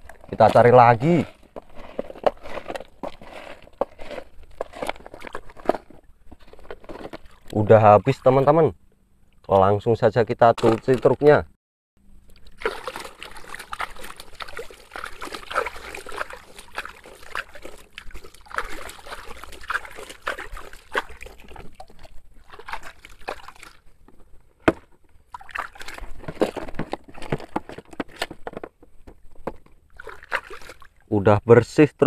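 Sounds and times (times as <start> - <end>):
water sloshing and splashing: 0.0 - 8.6, 12.2 - 31.1.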